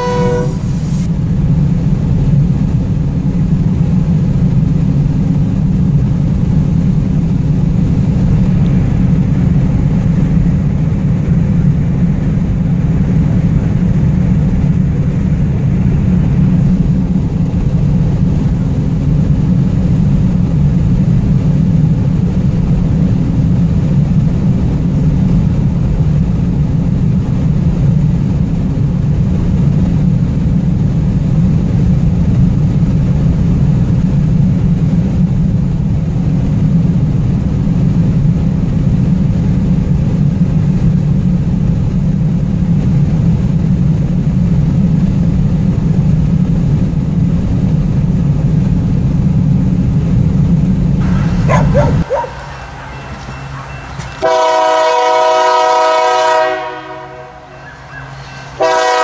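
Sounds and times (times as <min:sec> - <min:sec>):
car road and engine hum: 0:00.0 - 0:55.5.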